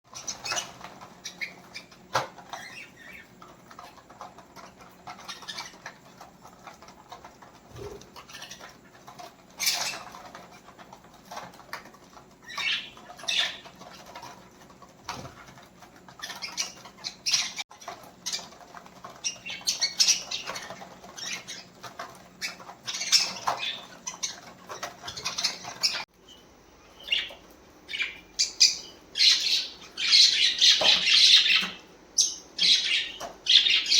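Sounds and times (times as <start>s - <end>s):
budgerigars chirping and squawking: 0.1s - 11.5s, 12.4s - 14.3s, 15.1s - 33.9s.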